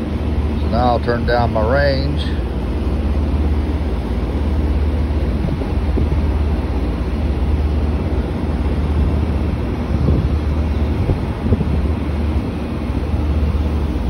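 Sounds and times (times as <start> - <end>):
steady low rumble: 0.0 - 14.0
wind buffeting microphone: 2.3 - 14.0.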